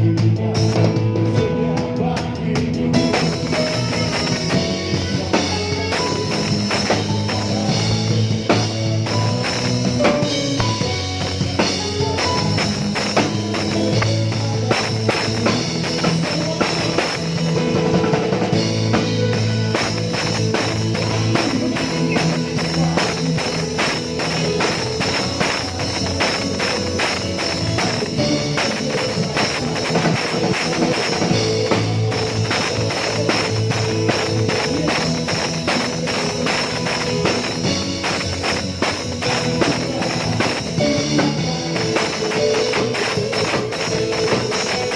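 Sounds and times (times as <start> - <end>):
drum kit beat: 0.0 - 44.9
sustained bass and keyboard tones: 0.0 - 44.9.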